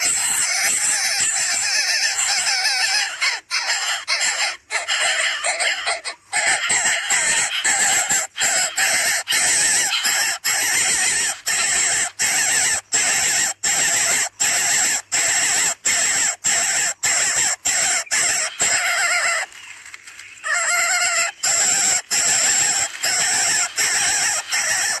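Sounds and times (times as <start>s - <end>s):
nestlings begging with rasping calls: 0.0s - 25.0s.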